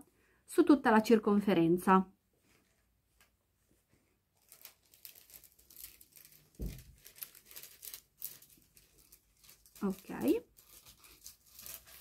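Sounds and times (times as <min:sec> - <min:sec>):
fabric rustling and scratching: 0:02.4 - 0:12.0.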